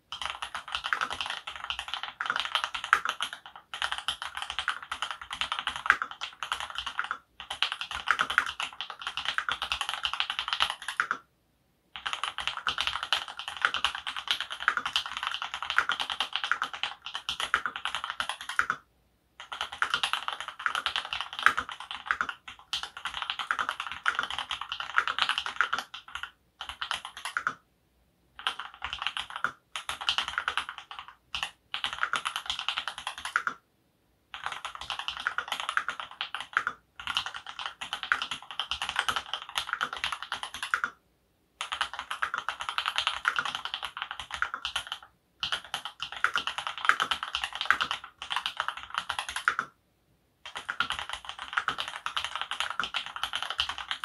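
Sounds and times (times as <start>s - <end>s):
typing on mechanical keyboard: 0.1s - 11.2s, 12.0s - 18.8s, 19.4s - 27.6s, 28.4s - 33.6s, 34.3s - 41.0s, 41.6s - 49.8s, 50.4s - 54.0s.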